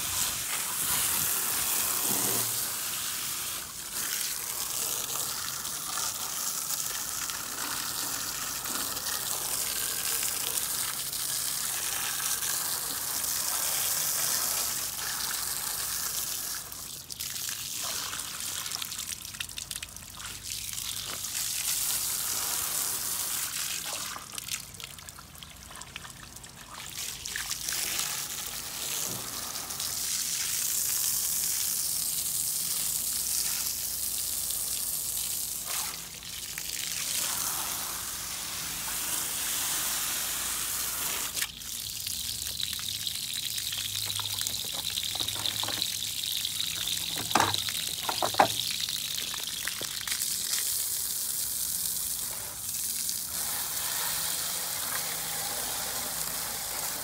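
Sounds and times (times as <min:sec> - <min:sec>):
hose water spraying through fins: 0:00.0 - 0:19.1, 0:20.2 - 0:24.4, 0:26.8 - 0:57.0
water splashing on pavement: 0:00.0 - 0:39.7, 0:40.8 - 0:57.0.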